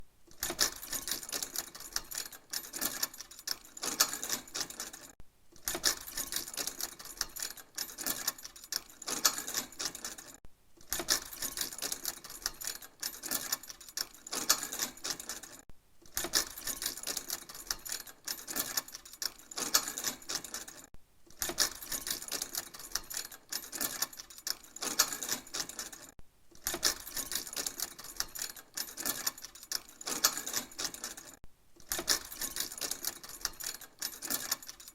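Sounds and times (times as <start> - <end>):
metal chains rattling: 0.4 - 34.9.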